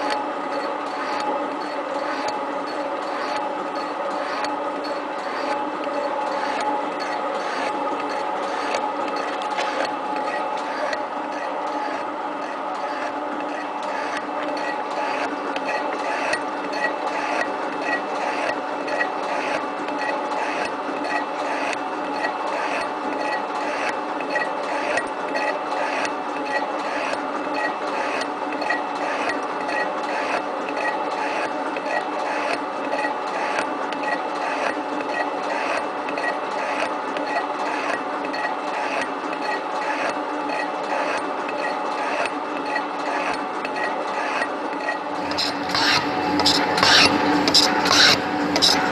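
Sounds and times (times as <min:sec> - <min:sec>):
machine ram scraping and clicking: 0:00.0 - 0:48.9
metal shaping machine humming: 0:00.0 - 0:48.9.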